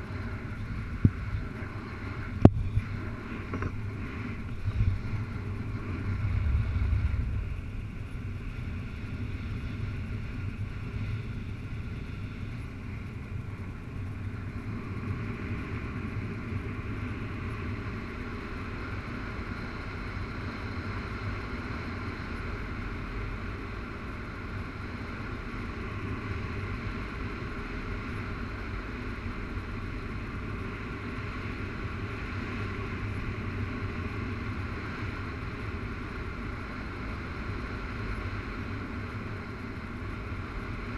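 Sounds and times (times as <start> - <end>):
airflow across microphone: 0.0 - 40.9.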